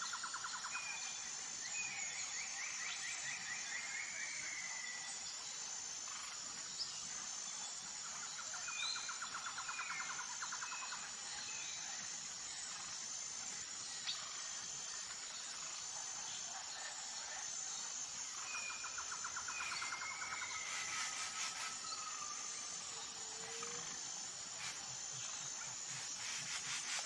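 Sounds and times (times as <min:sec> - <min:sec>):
high pulsing insect trill: 0:00.0 - 0:27.0.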